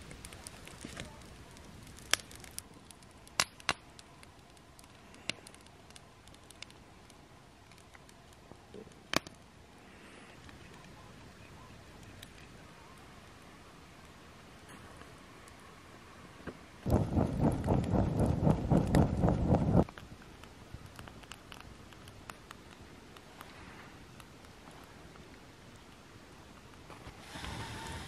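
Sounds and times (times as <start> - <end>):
fire pops: 0.0 - 13.1, 16.4 - 28.0
campfire crackling: 0.0 - 28.0.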